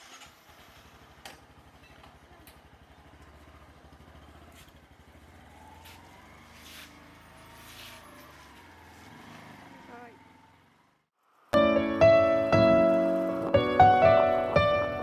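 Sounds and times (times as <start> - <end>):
faint vehicle engine running: 0.0 - 15.0.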